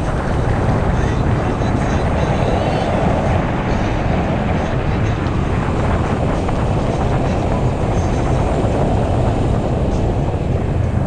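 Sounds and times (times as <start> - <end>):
road rumble: 0.0 - 11.0
wind buffeting microphone: 0.0 - 11.0.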